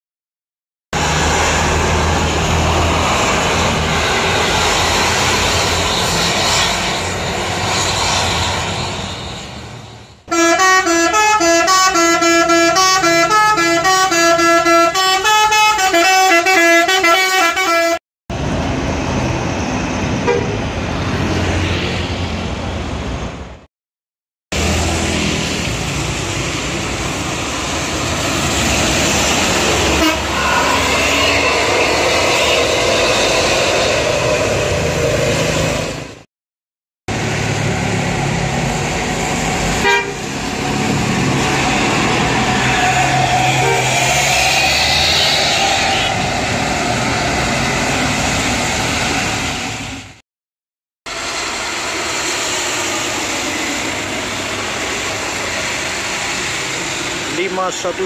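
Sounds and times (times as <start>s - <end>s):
vehicles passing on wet road: 1.0s - 23.7s, 24.6s - 36.3s, 37.1s - 50.2s, 51.1s - 58.0s.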